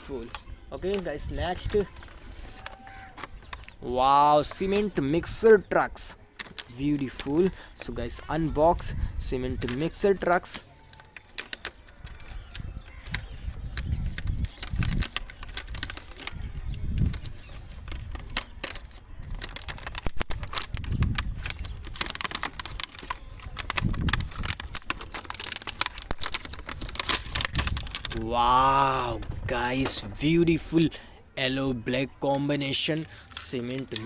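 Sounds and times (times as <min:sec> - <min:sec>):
cardboard and plastic rustling: 0:00.0 - 0:03.8, 0:06.3 - 0:30.9, 0:32.9 - 0:34.0.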